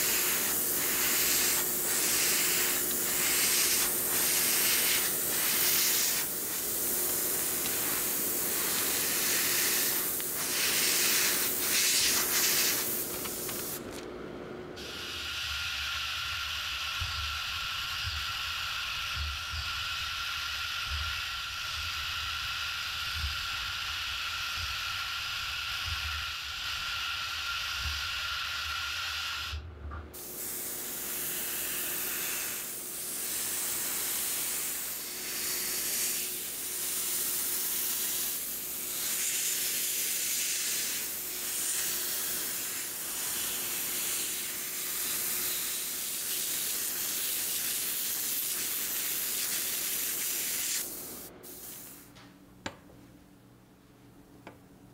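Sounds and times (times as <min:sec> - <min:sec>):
spraying hiss with whistle tone: 0:00.0 - 0:13.1, 0:14.8 - 0:29.6, 0:30.2 - 0:52.1
pulsing spraying hiss: 0:00.0 - 0:13.8, 0:14.8 - 0:29.6, 0:30.2 - 0:52.1.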